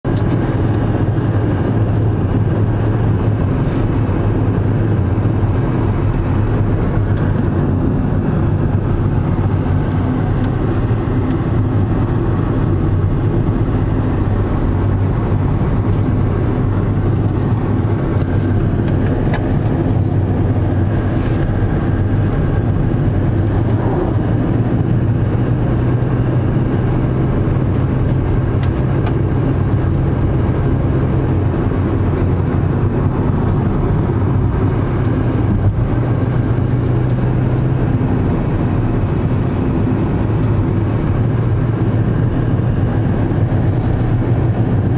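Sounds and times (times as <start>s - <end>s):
car engine and tyres hum: 0.0s - 44.9s.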